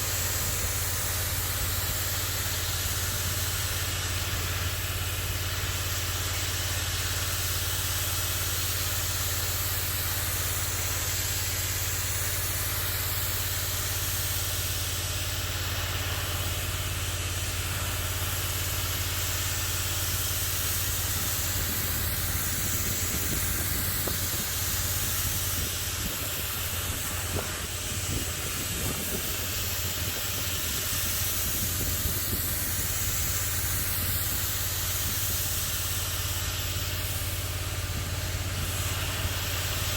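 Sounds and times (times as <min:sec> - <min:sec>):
hiss of water jet: 0:00.0 - 0:39.9
pressure washer motor hum: 0:00.0 - 0:39.9.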